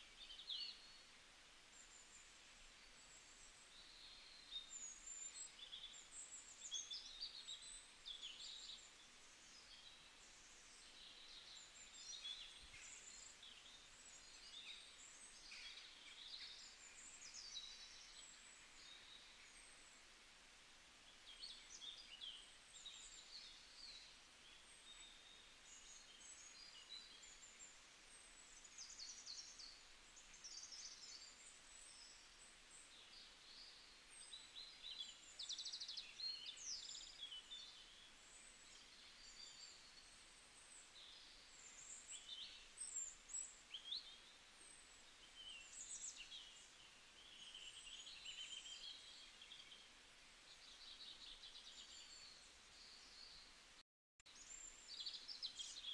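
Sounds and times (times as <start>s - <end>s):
faint birds chirping: 0.0s - 55.9s
low steady hiss: 0.0s - 55.9s.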